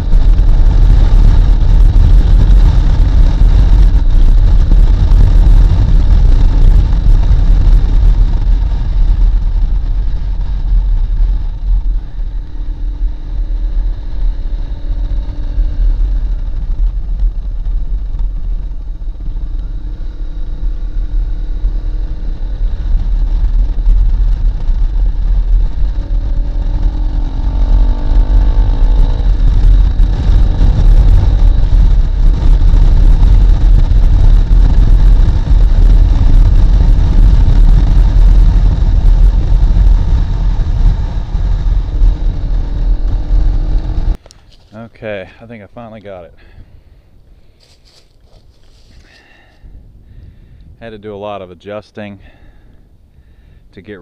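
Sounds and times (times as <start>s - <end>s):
motorcycle engine running: 0.0s - 47.0s, 47.6s - 51.0s
wind rumble on microphone: 0.0s - 54.0s.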